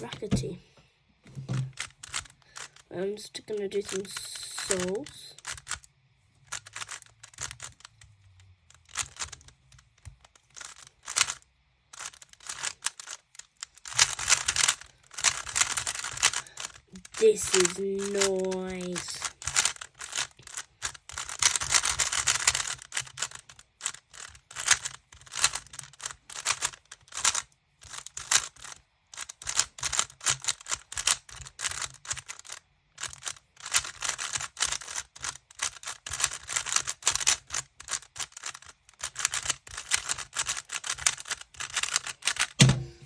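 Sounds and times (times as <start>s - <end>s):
puzzle cube plastic clicks: 1.3s - 43.0s.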